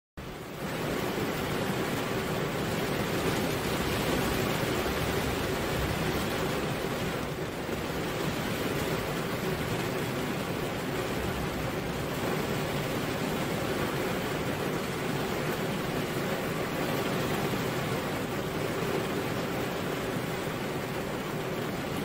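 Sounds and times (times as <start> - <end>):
steady rain falling: 0.2 - 22.0.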